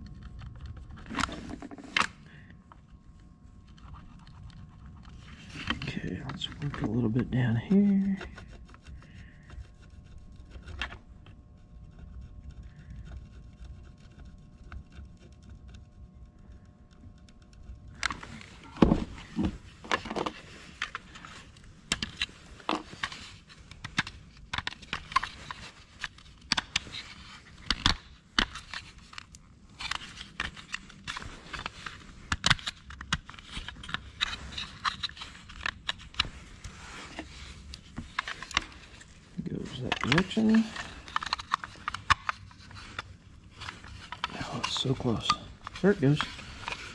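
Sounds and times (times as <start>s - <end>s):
plastic parts scraping and clicking: 0.0s - 3.0s, 3.6s - 11.4s, 12.2s - 46.9s.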